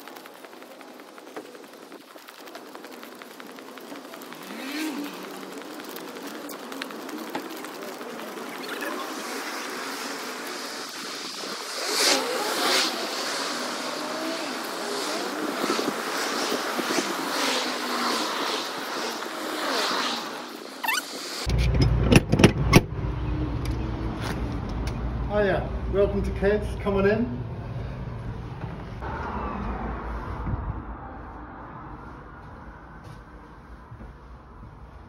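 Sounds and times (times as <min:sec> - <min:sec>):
cars passing on road: 0:00.0 - 0:35.0
road noise hiss: 0:00.0 - 0:35.0.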